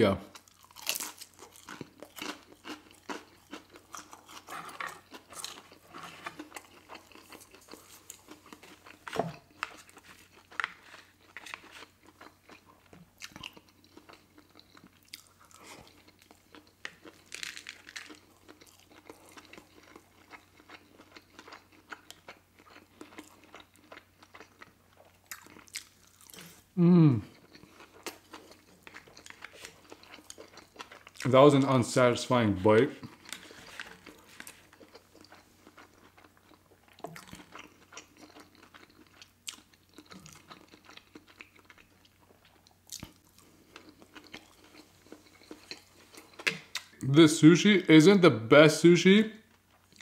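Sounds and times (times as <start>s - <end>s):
person chewing food: 0.3s - 31.4s, 32.8s - 47.0s, 49.5s - 50.0s.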